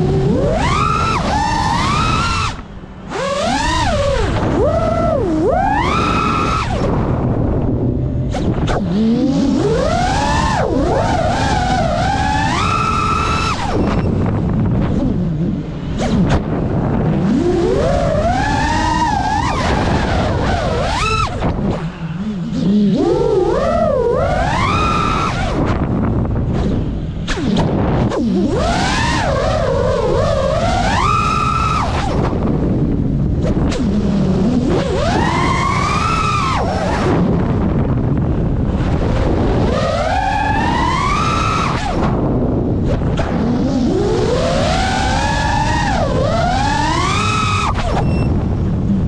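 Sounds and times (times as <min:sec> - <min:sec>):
drone motors whining: 0:00.0 - 0:49.0
wind rushing: 0:00.0 - 0:49.0.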